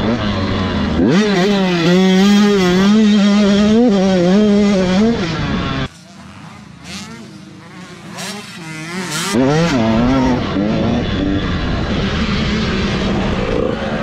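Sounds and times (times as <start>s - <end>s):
dirt bike engine up close: 0.0s - 14.0s
distant dirt bike accelerating: 0.0s - 14.0s.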